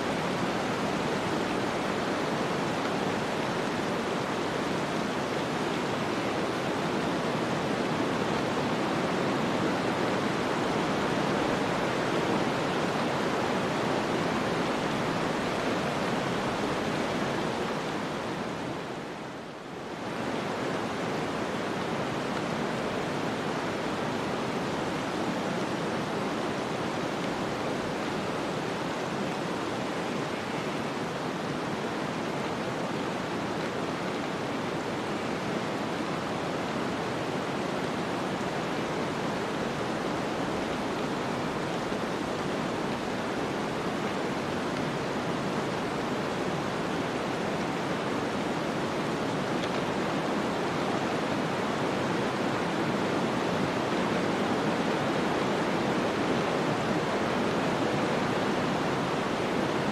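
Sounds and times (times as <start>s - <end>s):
rushing snowstorm wind: 0.0s - 59.9s.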